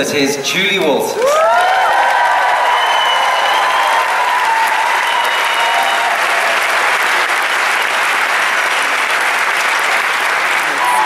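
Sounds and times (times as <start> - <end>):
large audience applauding: 1.1 - 11.0.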